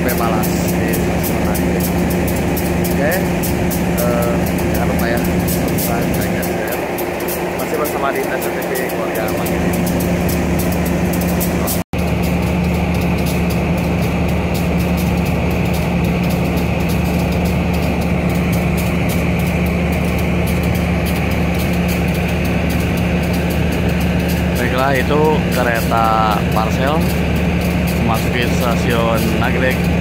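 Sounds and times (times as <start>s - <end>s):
train diesel engine humming: 0.0s - 30.0s.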